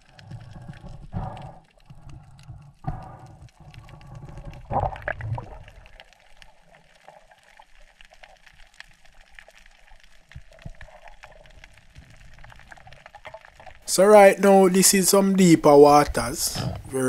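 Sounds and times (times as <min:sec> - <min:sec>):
water swishing underwater: 0:00.0 - 0:17.0.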